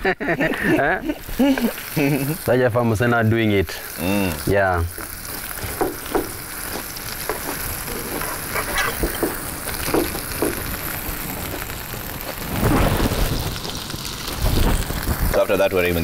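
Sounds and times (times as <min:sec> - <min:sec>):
food sizzling in a pan: 0:00.2 - 0:16.0.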